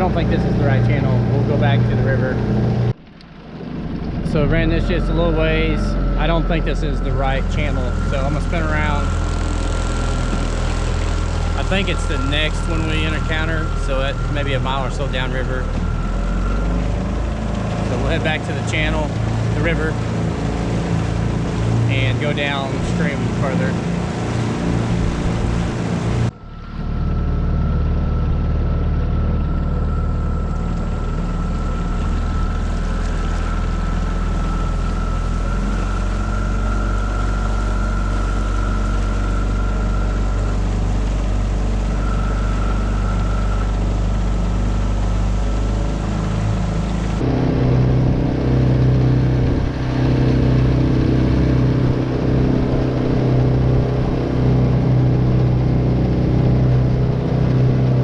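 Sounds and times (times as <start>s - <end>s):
outboard motor running: 0.0s - 58.0s
water noise: 0.0s - 58.0s.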